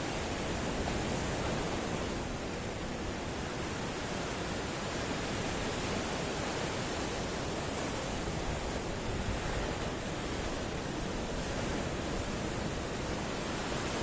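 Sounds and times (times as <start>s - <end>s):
waves breaking: 0.0s - 14.0s.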